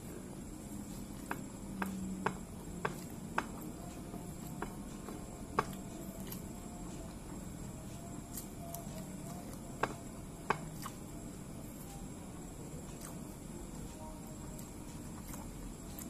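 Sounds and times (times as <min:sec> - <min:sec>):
person chewing rice: 0:00.4 - 0:16.0.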